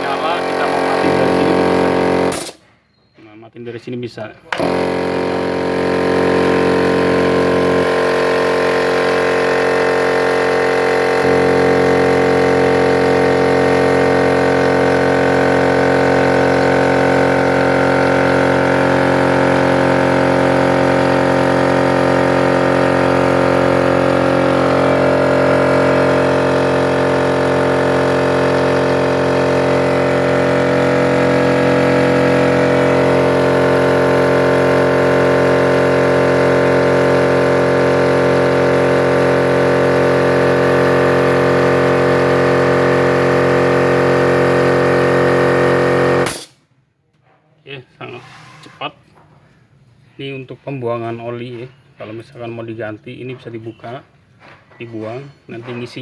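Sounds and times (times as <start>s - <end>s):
air compressor running: 0.0s - 3.1s, 3.8s - 46.6s, 48.0s - 50.3s.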